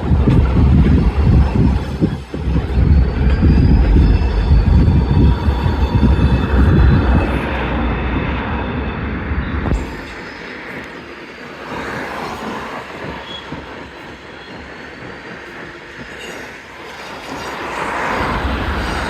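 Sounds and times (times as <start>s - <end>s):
freight train wheels clattering: 0.0s - 19.0s
faint high wheel squeal: 0.5s - 19.0s.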